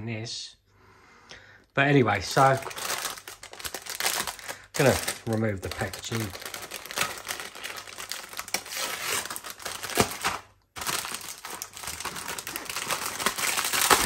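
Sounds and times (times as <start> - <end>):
plastic film crinkling: 2.1 - 14.0.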